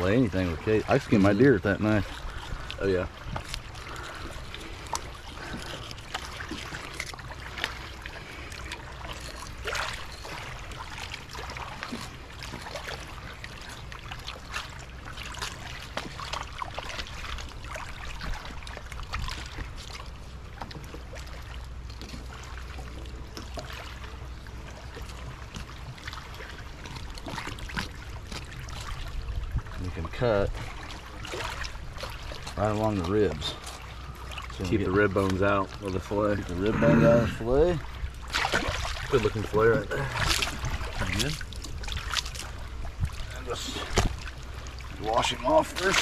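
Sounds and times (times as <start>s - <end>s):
water trickling and lapping: 0.0s - 46.0s.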